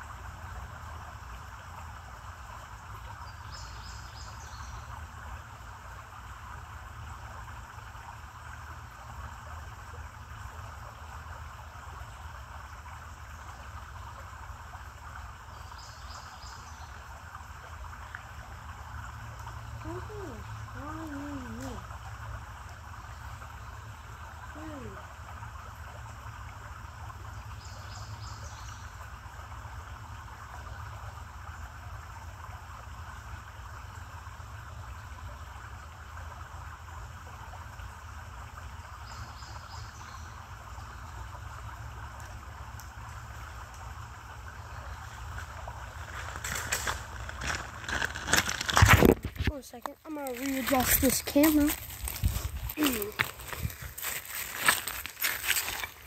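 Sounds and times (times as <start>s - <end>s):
creek water trickling over rocks: 0.0s - 56.0s.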